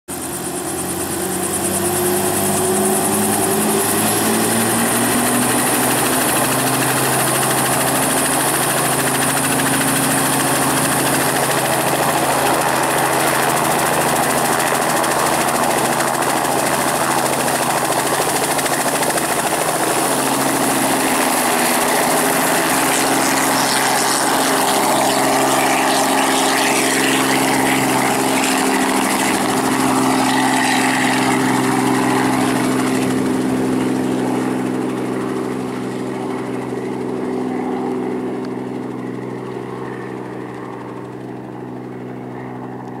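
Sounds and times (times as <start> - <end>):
helicopter engine and rotors: 0.1 - 43.0.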